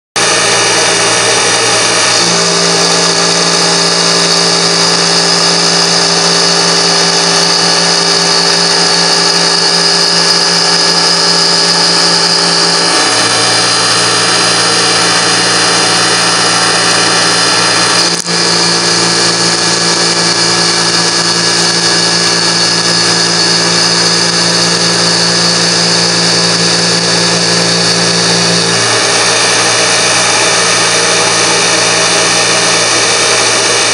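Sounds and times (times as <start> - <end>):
milling machine cutting metal: 0.2 - 33.9.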